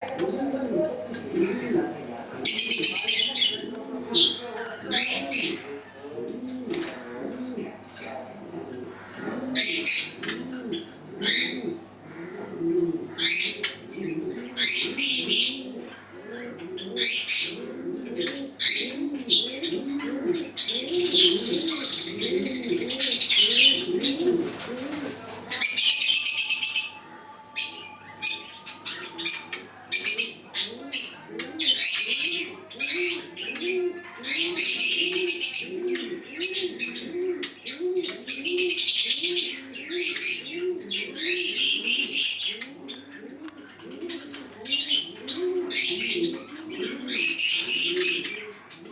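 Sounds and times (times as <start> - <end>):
pigeons cooing: 0.0 - 48.9
sparrows chirping and twittering: 0.6 - 6.0, 7.7 - 24.6, 25.2 - 48.9.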